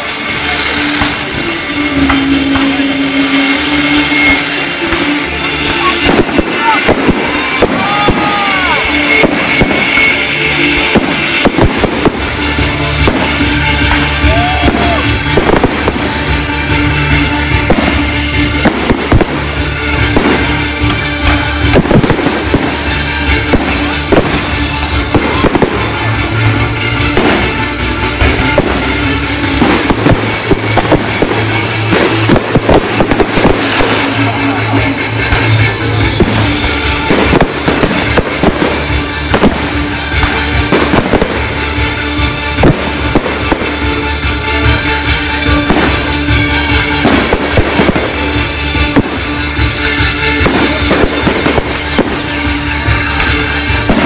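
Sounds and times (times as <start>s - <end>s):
fireworks bangs: 0.0s - 54.0s
music playing: 0.0s - 54.0s.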